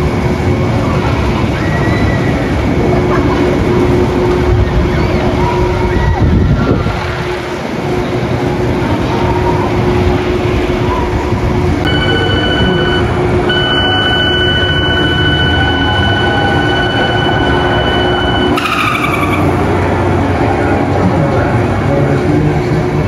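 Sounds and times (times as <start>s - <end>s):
high mechanical whine: 0.0s - 23.0s
mechanical rumble: 0.0s - 23.0s.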